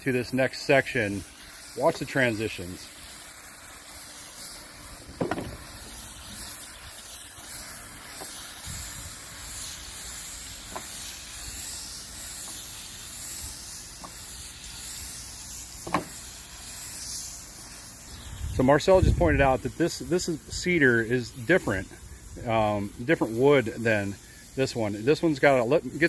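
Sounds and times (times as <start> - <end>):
hose spraying water on wood: 0.0 - 26.0.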